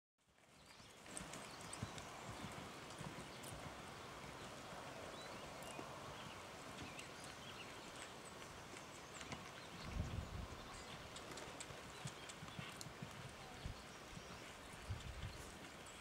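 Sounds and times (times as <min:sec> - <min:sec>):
horse hoofbeats on sand: 0:00.6 - 0:16.0.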